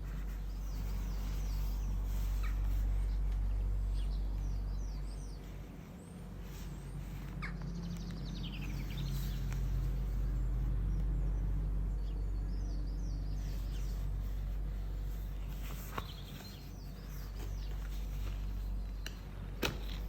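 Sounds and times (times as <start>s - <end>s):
birds chirping: 0.0s - 20.0s
low background hum: 0.0s - 20.0s.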